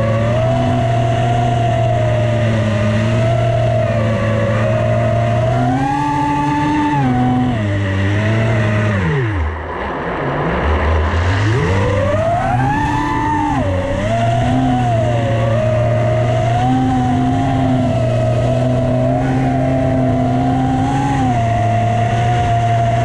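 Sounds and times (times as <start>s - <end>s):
quadcopter motors whining: 0.0s - 9.5s, 11.2s - 23.0s.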